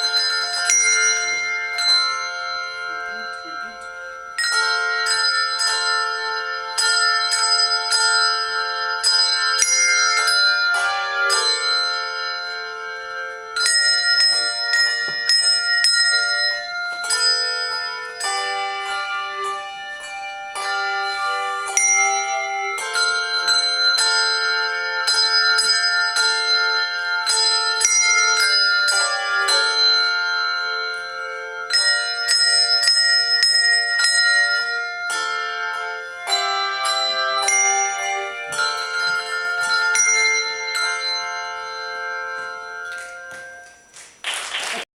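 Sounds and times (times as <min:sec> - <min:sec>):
handbell choir ringing: 0:00.0 - 0:44.9.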